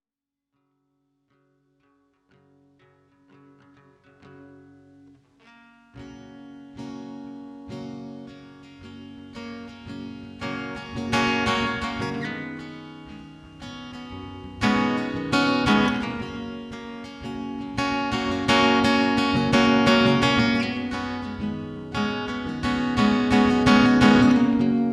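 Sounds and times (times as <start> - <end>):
acoustic guitar playing: 1.3 - 24.9.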